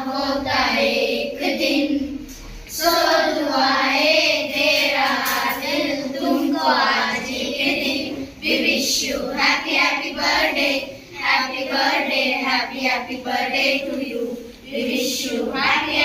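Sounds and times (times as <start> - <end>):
children singing in unison: 0.0 - 16.0.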